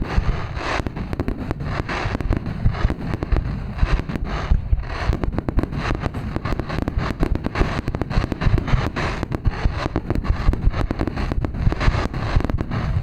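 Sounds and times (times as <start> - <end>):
fireworks booming and cracking: 0.0 - 13.0.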